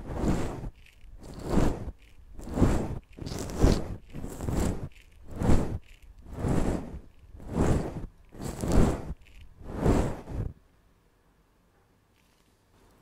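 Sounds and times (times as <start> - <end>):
brush bristles scratching microphone: 0.0 - 10.6.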